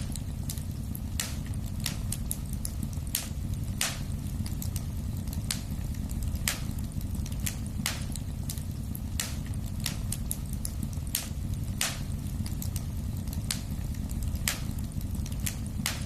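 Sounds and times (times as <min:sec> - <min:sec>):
fire pops and snaps: 0:00.0 - 0:16.0
low rumble of flames: 0:00.0 - 0:16.0
wood fire crackling: 0:00.0 - 0:16.0.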